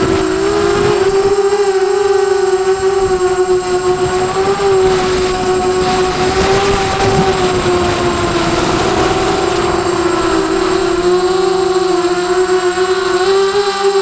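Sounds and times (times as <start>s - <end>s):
quadcopter motors whining: 0.0s - 14.0s
rushing noise: 0.0s - 14.0s.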